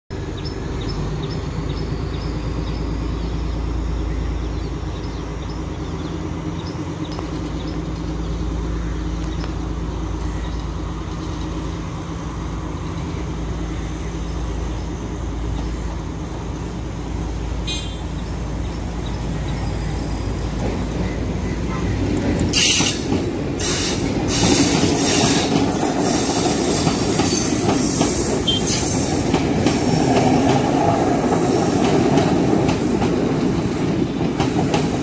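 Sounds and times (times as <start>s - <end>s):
traffic rumble: 0.1s - 35.0s.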